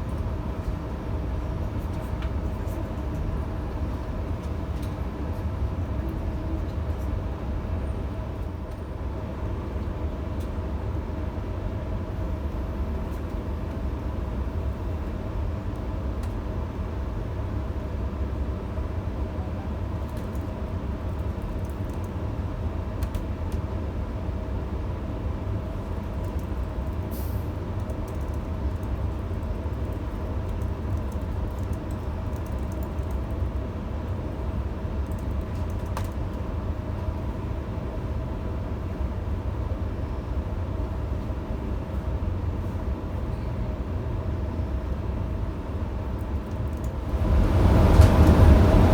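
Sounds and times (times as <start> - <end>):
train rumble inside carriage: 0.0 - 48.9.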